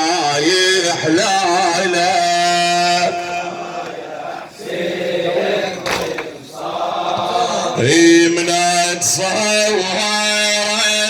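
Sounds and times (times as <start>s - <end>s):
men chanting together: 0.0s - 10.0s.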